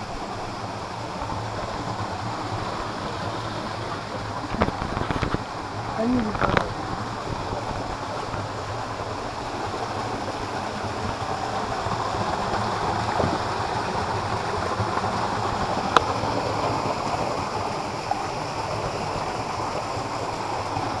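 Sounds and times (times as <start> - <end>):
waterfall pouring over rocks: 0.0 - 21.0.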